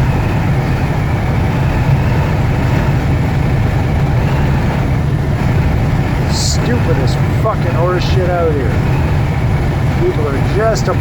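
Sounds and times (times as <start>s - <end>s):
road noise: 0.0s - 11.0s
truck engine rumbling: 0.0s - 11.0s.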